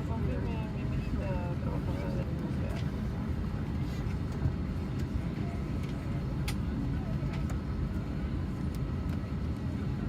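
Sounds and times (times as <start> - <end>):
aircraft cabin low rumble: 0.0 - 10.0.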